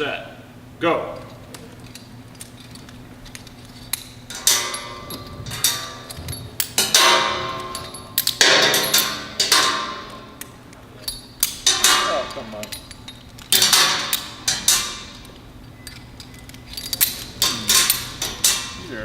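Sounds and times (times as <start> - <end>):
metal carabiners clanking: 1.1 - 19.0.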